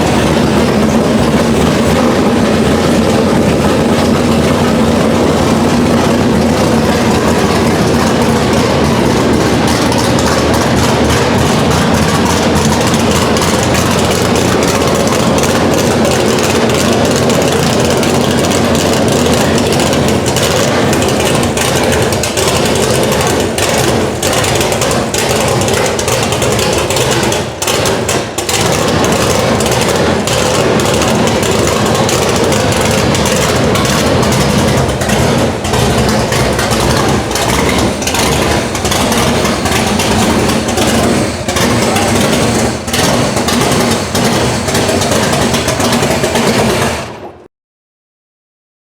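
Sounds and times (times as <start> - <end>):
car engine idling loudly: 0.0 - 47.5.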